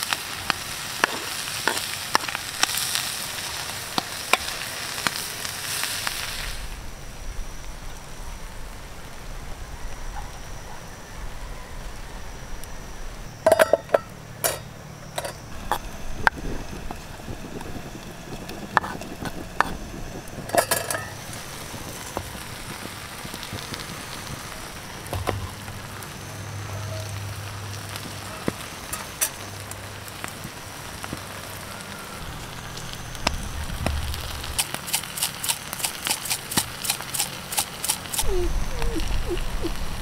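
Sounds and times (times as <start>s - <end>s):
food sizzling in a pan: 0.0s - 9.9s, 15.4s - 40.0s
wood fire crackling: 0.0s - 40.0s.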